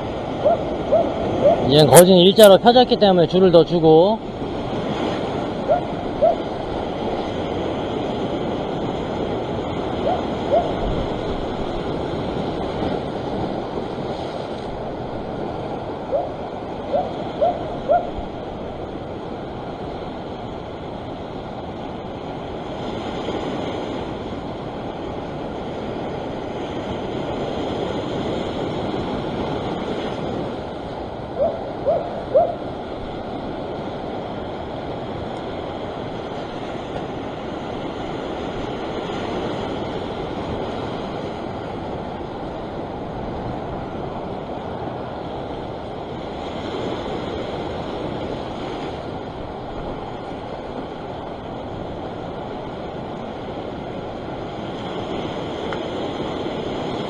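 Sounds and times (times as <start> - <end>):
surf washing against rocks: 0.0 - 57.0.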